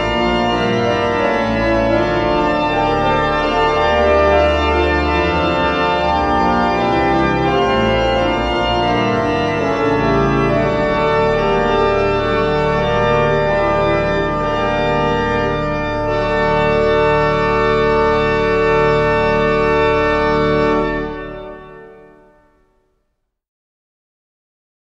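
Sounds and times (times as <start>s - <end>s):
pipe organ chords: 0.0s - 22.9s.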